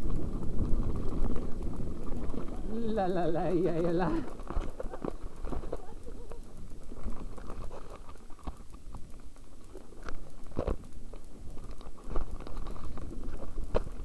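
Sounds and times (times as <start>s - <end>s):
bike tyres crunching over gravel: 0.0s - 14.0s.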